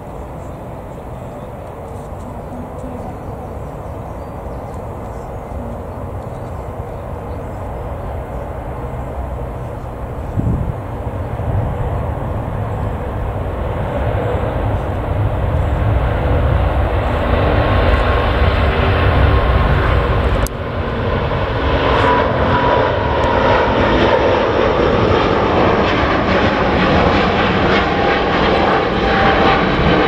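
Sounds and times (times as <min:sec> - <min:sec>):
jet engines rumbling: 0:00.0 - 0:30.0
steady jet whine: 0:00.0 - 0:30.0.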